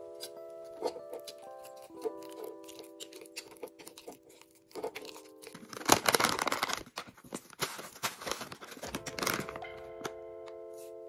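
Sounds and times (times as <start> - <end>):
soft background music: 0.0 - 11.0
plastic bag crinkling: 0.3 - 10.1.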